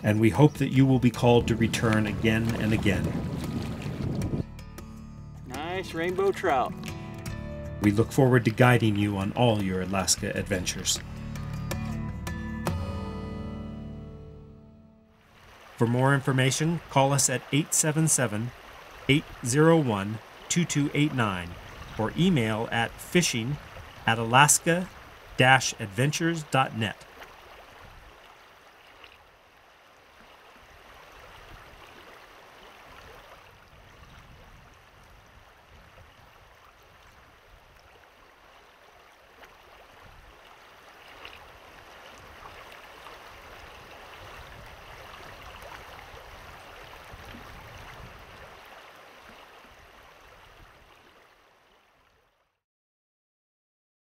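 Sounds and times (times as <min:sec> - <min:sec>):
river water running: 0:00.0 - 0:52.6.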